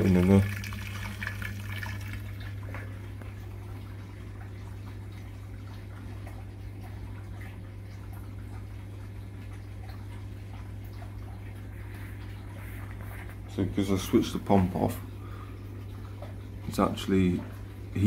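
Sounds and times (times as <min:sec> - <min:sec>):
faint drips and ticks: 0:00.0 - 0:18.0
steady low hum: 0:00.0 - 0:18.0.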